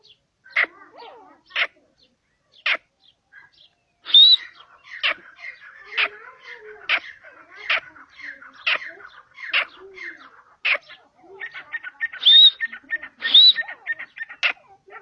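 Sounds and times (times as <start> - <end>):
bird calling sharp notes: 2.6 - 14.6.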